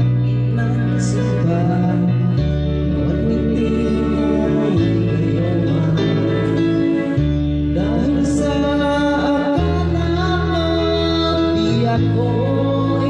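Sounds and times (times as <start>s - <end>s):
karaoke backing track with guitar: 0.0s - 13.0s
person singing love song: 0.0s - 13.0s.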